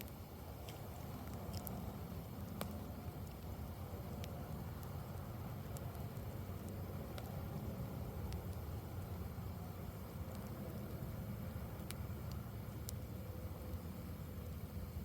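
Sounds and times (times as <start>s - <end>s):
crackles and pops of burning wood: 0.0s - 15.0s
fire low rumble: 0.0s - 15.0s.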